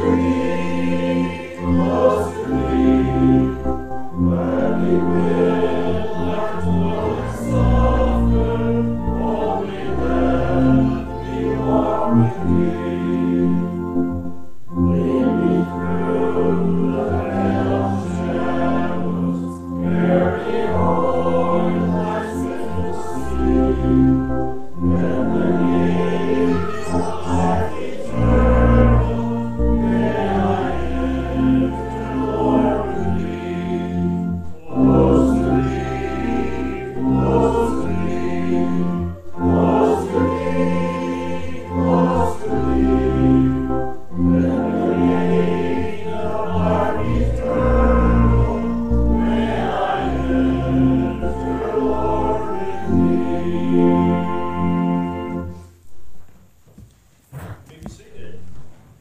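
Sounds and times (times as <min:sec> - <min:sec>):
many voices singing a hymn: 0:00.0 - 0:55.6
keyboard accompaniment: 0:00.0 - 0:56.1.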